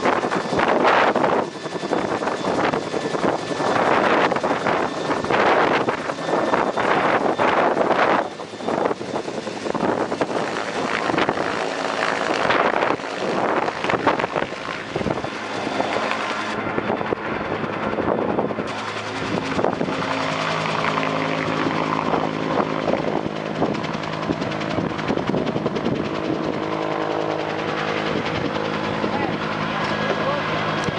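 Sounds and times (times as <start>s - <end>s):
helicopter rotor and engine drone: 0.0s - 30.9s
wind buffeting microphone: 0.0s - 30.9s.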